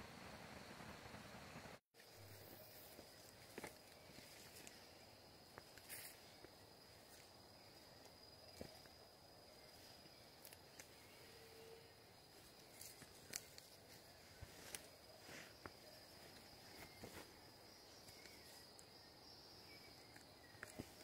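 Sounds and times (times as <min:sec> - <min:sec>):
high-pitched insect trill: 0:02.0 - 0:21.0.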